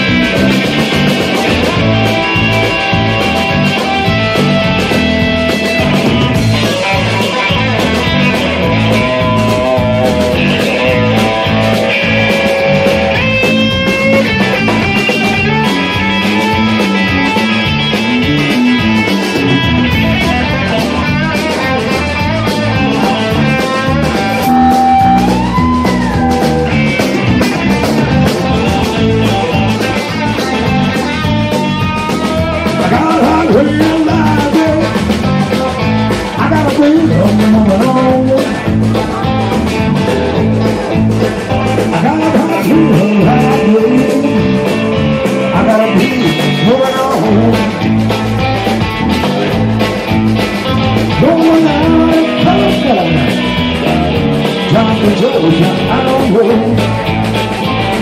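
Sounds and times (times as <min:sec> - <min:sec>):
drum kit: 0:00.0 - 0:58.0
electric guitar through amp: 0:00.0 - 0:58.0.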